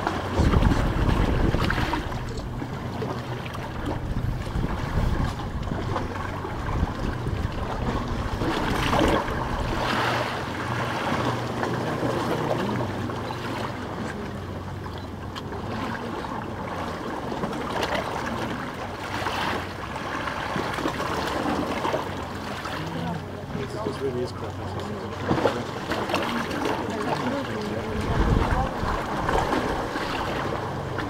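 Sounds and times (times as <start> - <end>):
waves washing on stone beach: 0.0 - 14.8, 15.4 - 31.0.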